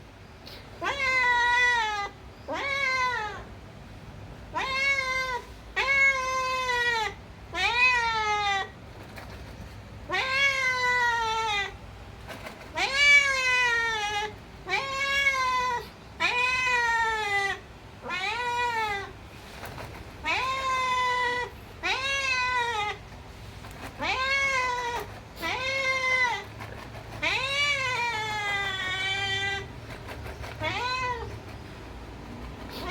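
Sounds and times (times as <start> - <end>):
cat meowing: 0.8 - 3.5, 4.5 - 11.8, 12.5 - 32.9.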